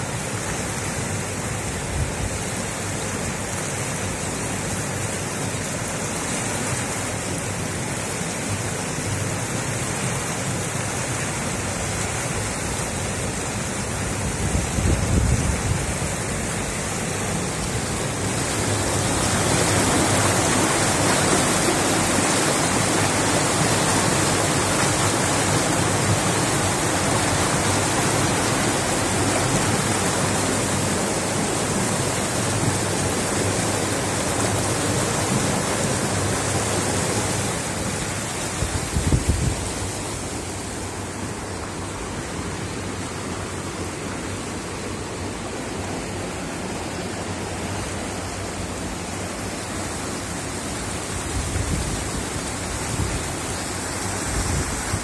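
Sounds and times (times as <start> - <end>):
flooded river rushing: 0.0 - 55.0.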